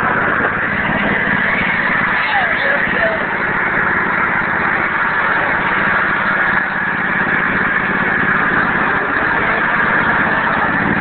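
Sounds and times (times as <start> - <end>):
garden tractor engine running: 0.0 - 11.0.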